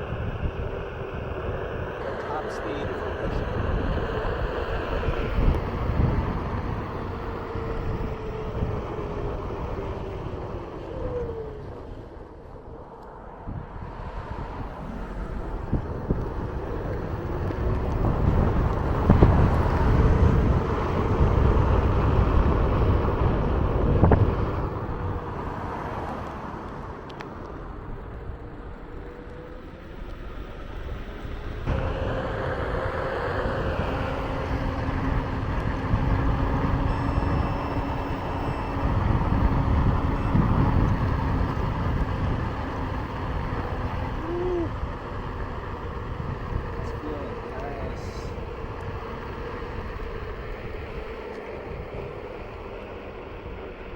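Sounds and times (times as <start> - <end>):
wind on microphone: 0.0 - 27.0, 27.6 - 53.9
electric motor whine: 0.0 - 53.9
wheel rolling rumble: 0.0 - 53.9.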